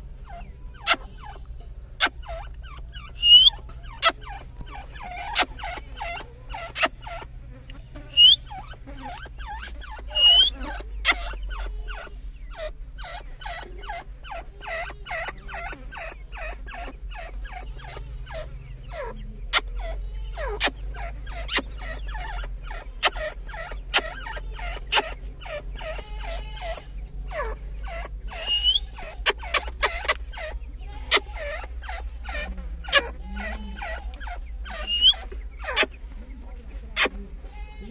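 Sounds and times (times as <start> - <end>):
francolins calling: 0.0 - 37.9
steady low hum: 0.0 - 37.9.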